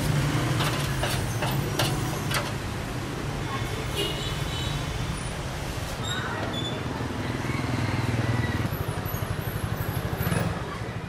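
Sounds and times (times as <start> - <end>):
motorbike engines rumbling: 0.0 - 11.0.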